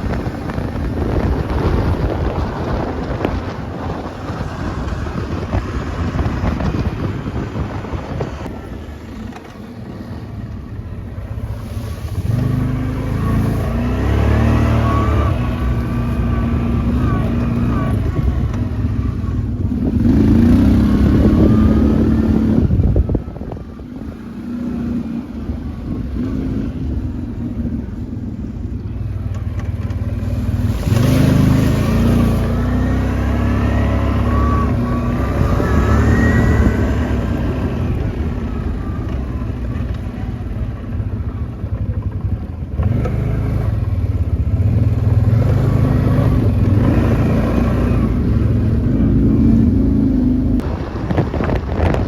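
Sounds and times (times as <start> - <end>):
quad bike engines revving: 0.0 - 52.0.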